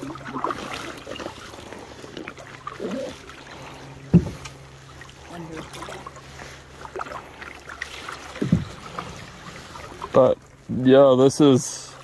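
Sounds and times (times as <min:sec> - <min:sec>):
paddle strokes in water: 0:00.0 - 0:12.0.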